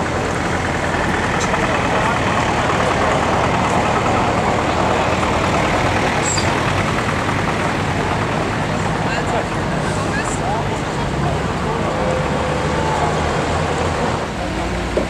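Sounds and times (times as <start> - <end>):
diesel truck engine running: 0.0 - 15.0
people talking: 0.0 - 15.0.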